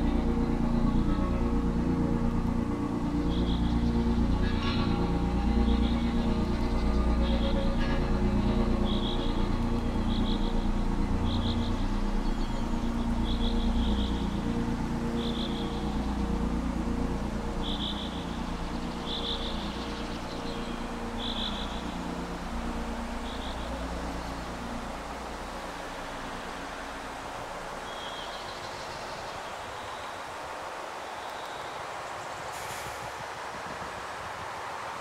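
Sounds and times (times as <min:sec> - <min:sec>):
low droning hum: 0:00.0 - 0:29.2.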